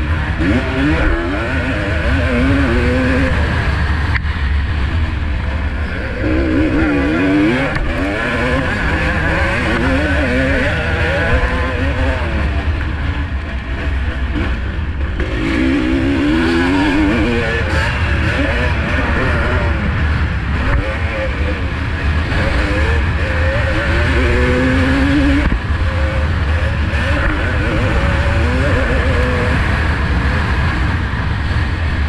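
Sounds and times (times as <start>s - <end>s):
motocross engine revving: 0.0s - 32.0s.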